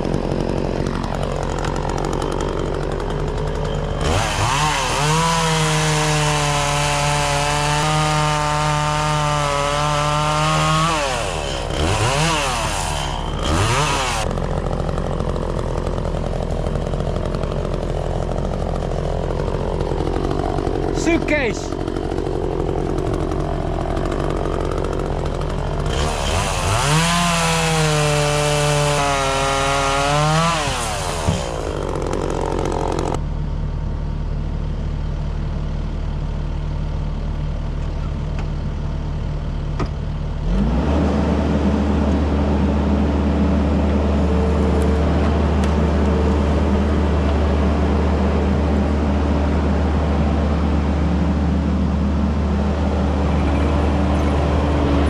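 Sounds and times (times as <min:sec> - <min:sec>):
chainsaw idling and revving: 0:00.0 - 0:33.3, 0:40.2 - 0:55.0
deep engine drone: 0:00.0 - 0:55.0.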